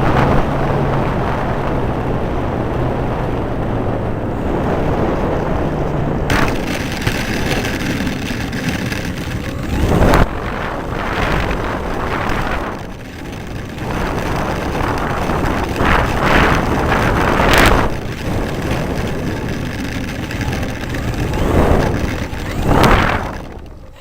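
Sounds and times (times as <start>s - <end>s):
wind on microphone: 0.0s - 24.0s
model airplane motor: 4.4s - 24.0s.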